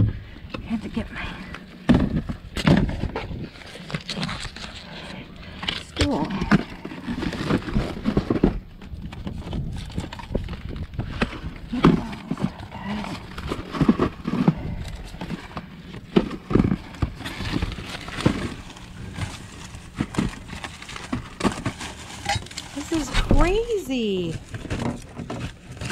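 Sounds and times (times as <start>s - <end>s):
rummaging in dumpster: 0.0s - 25.9s.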